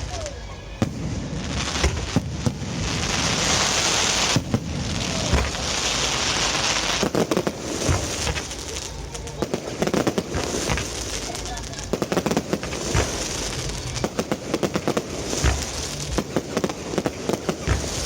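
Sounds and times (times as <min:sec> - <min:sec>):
firework pops and reports: 0:00.0 - 0:18.0
fireworks crackling: 0:00.0 - 0:18.0
sharp firework bangs: 0:00.0 - 0:18.0.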